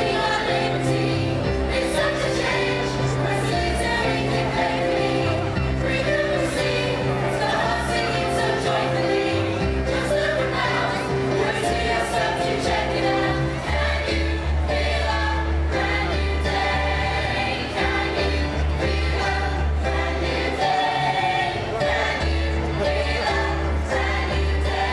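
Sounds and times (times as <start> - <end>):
group of singers: 0.0 - 24.9.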